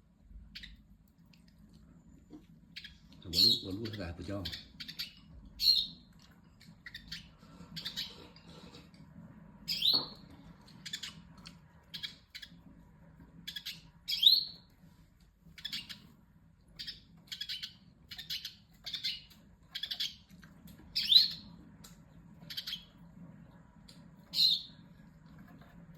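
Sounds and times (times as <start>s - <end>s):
faint low hum: 0.0s - 25.9s.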